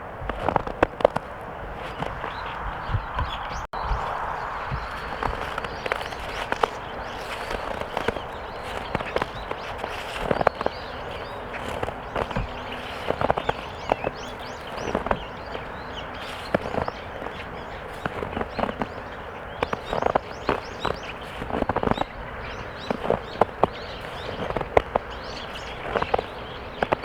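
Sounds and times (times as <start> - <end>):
footsteps crunching in snow: 0.0 - 27.0.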